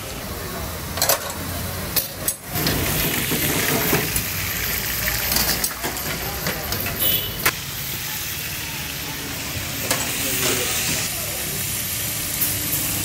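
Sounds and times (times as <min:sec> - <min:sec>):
meat sizzling in a wok: 0:00.0 - 0:13.0.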